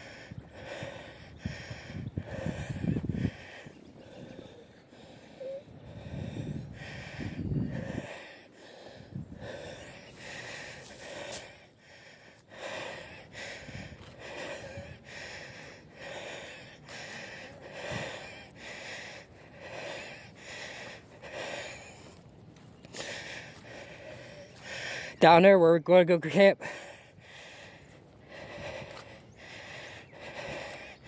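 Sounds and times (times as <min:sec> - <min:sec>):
man breathing hard: 0:00.0 - 0:31.0.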